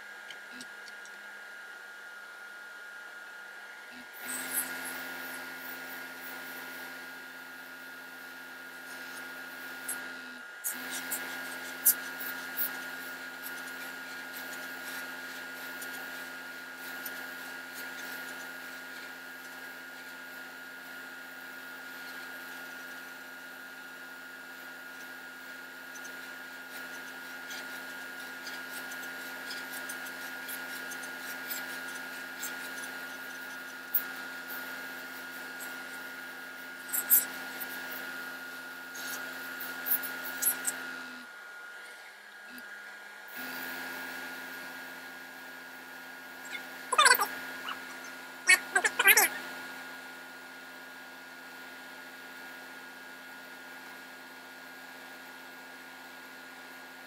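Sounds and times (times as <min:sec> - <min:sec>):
electric motor hum: 0:00.0 - 0:52.8.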